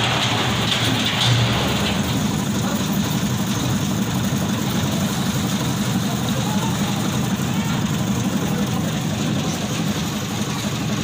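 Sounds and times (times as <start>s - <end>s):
construction machine engine running: 0.0s - 11.0s.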